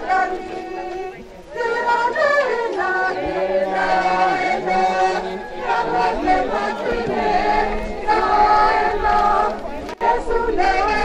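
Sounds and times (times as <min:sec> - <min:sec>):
group singing in chorus: 0:00.0 - 0:11.0.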